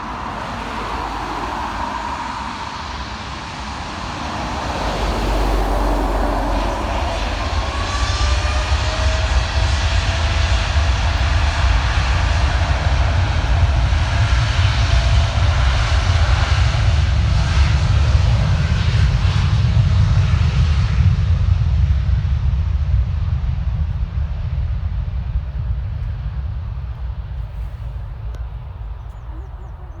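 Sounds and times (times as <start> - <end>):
jet airliner engines passing: 0.0 - 30.0.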